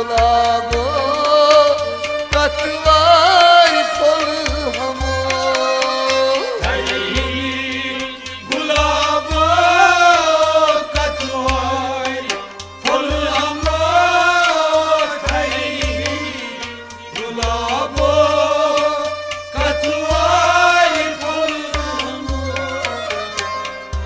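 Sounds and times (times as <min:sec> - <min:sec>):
bowed string instrument: 0:00.0 - 0:24.0
hand drums beat: 0:00.0 - 0:24.0
harmonium: 0:00.0 - 0:24.0.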